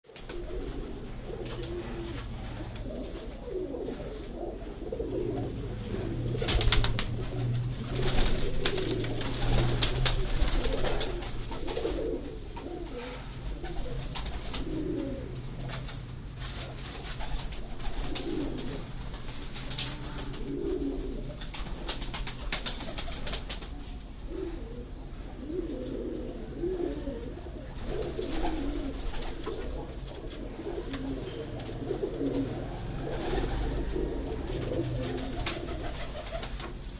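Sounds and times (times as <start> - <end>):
pigeons cooing: 0.1 - 36.9.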